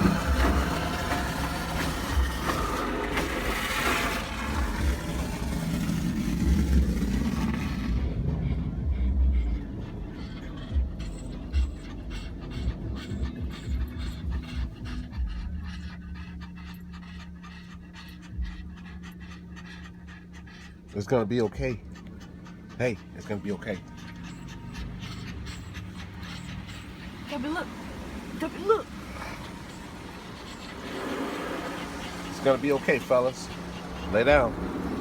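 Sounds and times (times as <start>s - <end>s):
car wash spray and machinery: 0.0s - 35.0s
dogs panting: 0.0s - 35.0s
low steady hum: 0.0s - 35.0s.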